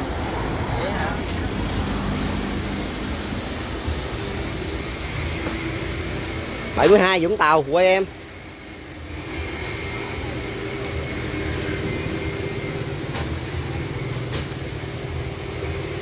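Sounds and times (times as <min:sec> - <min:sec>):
engine running with low rumble: 0:00.0 - 0:06.6, 0:08.2 - 0:16.0.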